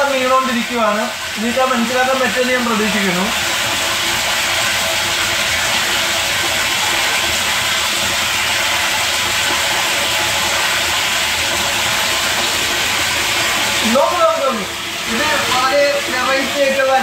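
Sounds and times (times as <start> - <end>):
water pouring into a tank: 0.0 - 17.0.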